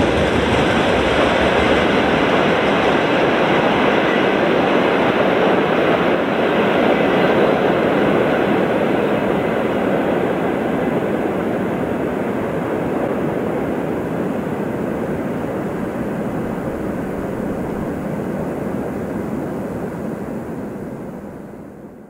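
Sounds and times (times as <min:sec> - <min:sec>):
freight train rolling on rails: 0:00.0 - 0:21.4.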